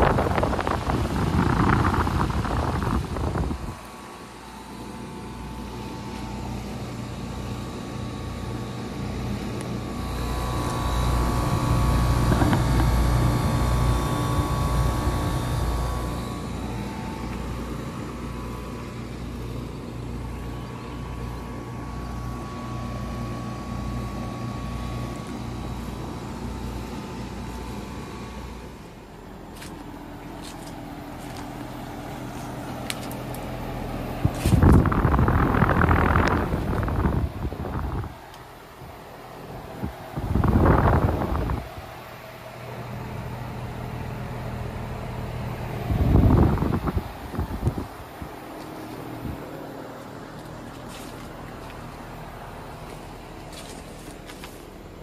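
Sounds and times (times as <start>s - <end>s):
air conditioner compressor hum: 0.0s - 55.0s
quieter heat pump hum: 0.0s - 55.0s.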